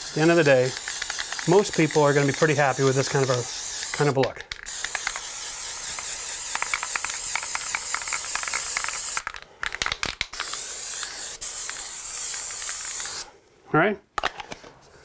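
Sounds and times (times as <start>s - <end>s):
aerosol can spraying: 0.0s - 9.3s, 10.3s - 13.3s.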